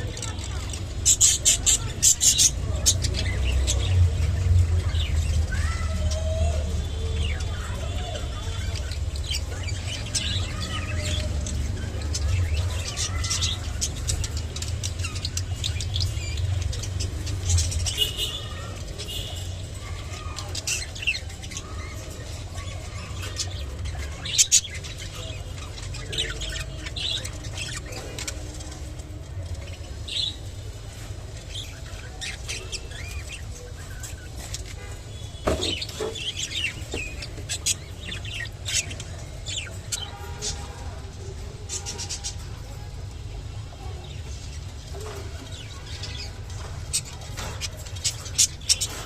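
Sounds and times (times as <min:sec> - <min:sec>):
budgerigars chirping and squawking: 0:00.0 - 0:43.2, 0:43.8 - 0:49.0.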